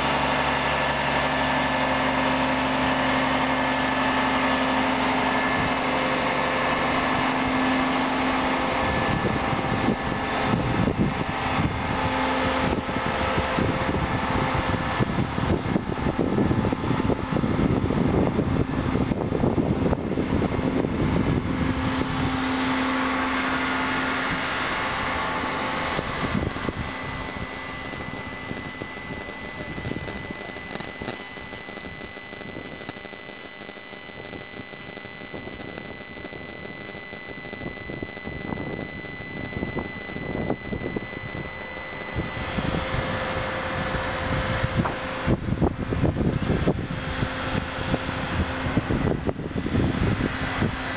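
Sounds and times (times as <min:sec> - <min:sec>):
cherry picker boom whine: 0:00.0 - 0:50.9
cherry picker engine rumble: 0:00.0 - 0:50.9.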